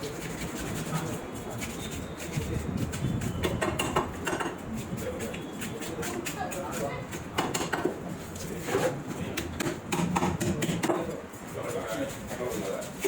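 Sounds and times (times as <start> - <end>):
low background murmur: 0.0 - 13.0.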